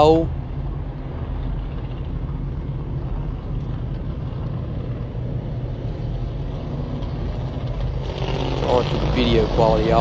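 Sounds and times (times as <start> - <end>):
race car engines running: 0.0 - 10.0.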